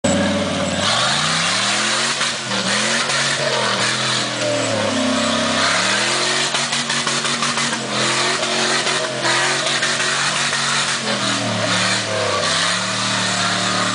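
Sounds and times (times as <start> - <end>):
buggy engine revving: 0.0 - 13.9.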